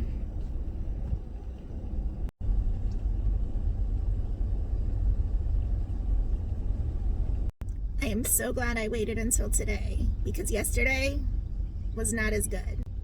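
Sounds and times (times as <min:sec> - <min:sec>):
minivan driving rumble: 0:00.0 - 0:13.0.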